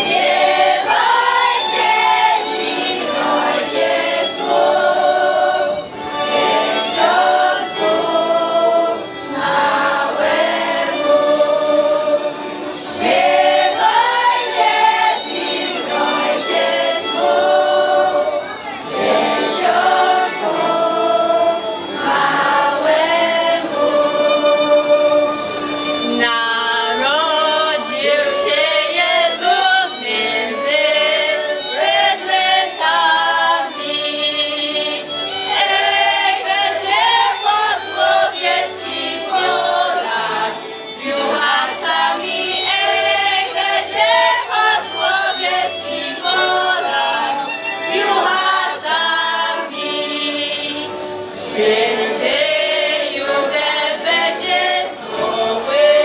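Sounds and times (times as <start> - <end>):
choir of girls singing: 0.0 - 56.0
fiddles playing: 0.0 - 56.0.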